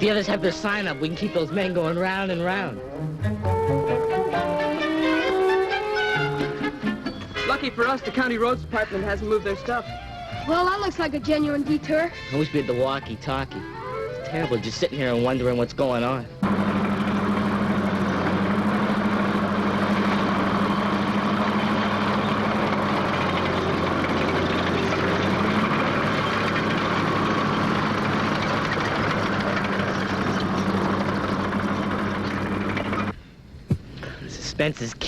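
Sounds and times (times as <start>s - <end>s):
bulldozer engine running: 0.0s - 34.1s.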